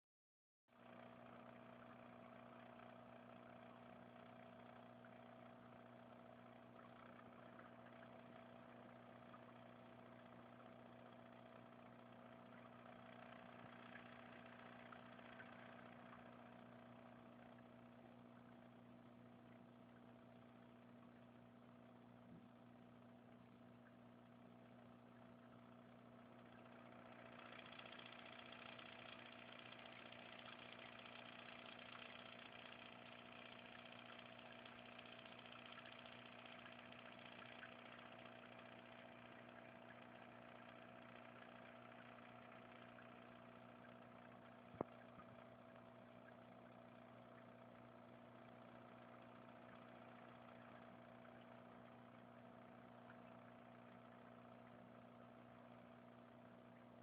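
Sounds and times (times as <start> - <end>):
faint steady hum: 0.8 - 57.0.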